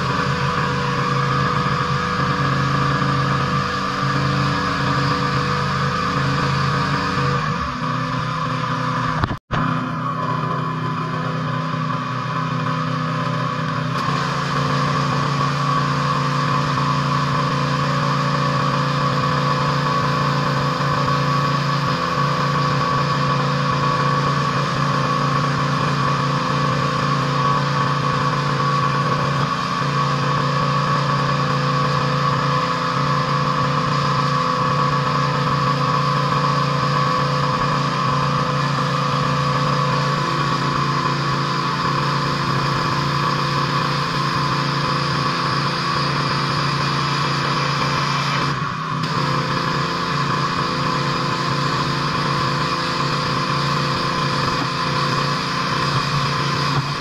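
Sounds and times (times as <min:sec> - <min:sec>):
pressure washer engine hum: 0:00.0 - 0:57.0.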